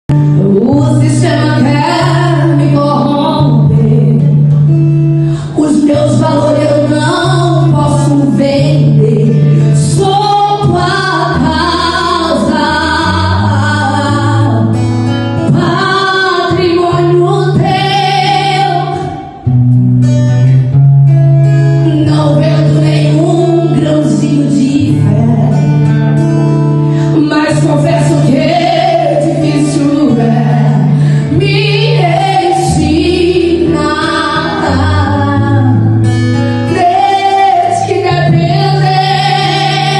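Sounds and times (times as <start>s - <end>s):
acoustic guitar: 0.0s - 39.9s
sustained bass notes: 0.0s - 39.9s
woman singing: 0.2s - 4.6s, 5.4s - 14.8s, 15.4s - 19.4s, 21.8s - 25.8s, 27.1s - 39.9s.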